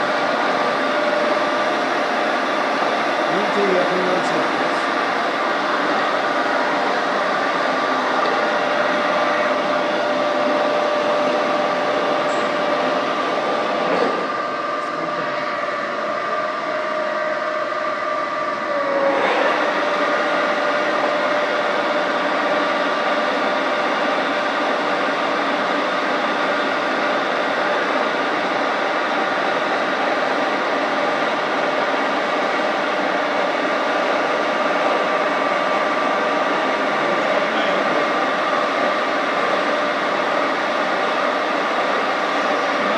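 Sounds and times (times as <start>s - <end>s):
machining center whine: 0.0s - 42.9s.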